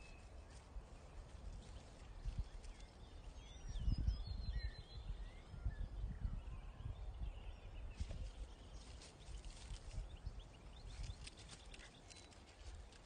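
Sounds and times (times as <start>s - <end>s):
small birds chirping: 0.0s - 13.0s
wind buffeting microphone: 0.0s - 13.0s.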